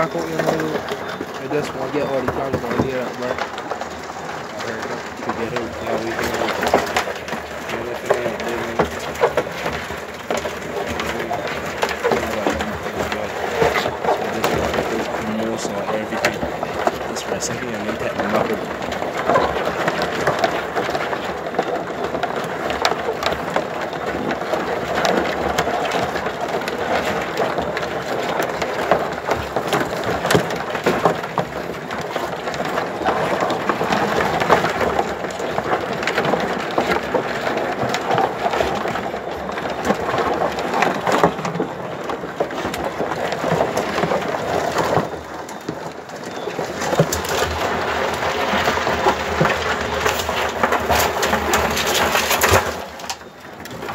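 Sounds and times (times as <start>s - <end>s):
crabs clicking against plastic: 0.0s - 53.9s.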